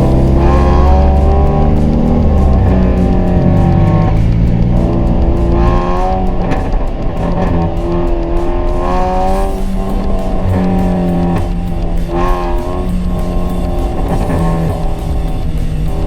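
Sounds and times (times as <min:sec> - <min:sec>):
car exhaust while driving: 0:00.0 - 0:16.0
music with guitar melody: 0:00.0 - 0:16.0.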